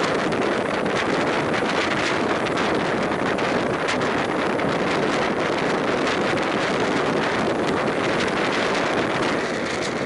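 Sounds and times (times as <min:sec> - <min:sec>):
train wheels rumbling on rails: 0:00.0 - 0:10.0
wind rushing over microphone: 0:00.0 - 0:10.0.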